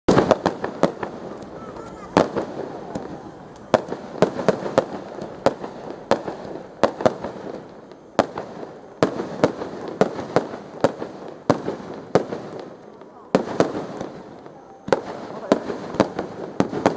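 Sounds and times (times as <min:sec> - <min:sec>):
fireworks bangs: 0:00.1 - 0:16.9.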